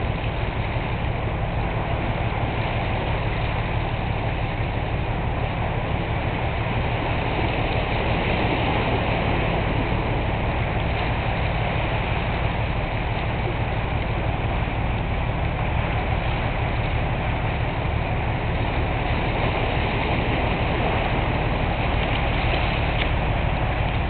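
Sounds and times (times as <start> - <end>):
ship engine low rumble: 0.0 - 24.0.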